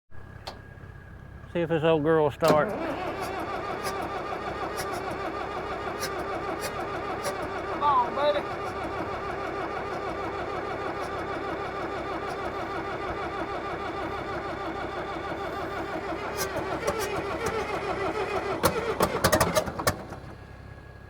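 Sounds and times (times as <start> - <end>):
bulldozer engine cranking: 0.2 - 21.0.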